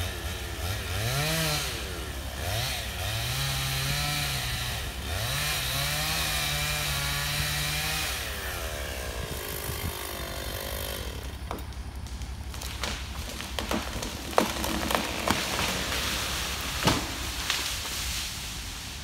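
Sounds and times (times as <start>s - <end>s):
chainsaw cutting wood: 0.0s - 18.4s.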